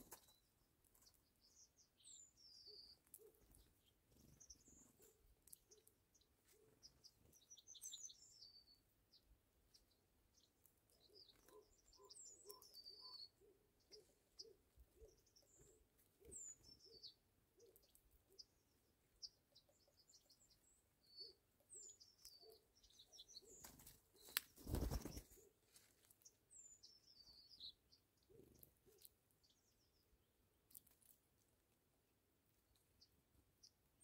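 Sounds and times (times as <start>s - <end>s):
small bird chirps: 0.0s - 31.7s, 32.5s - 34.0s.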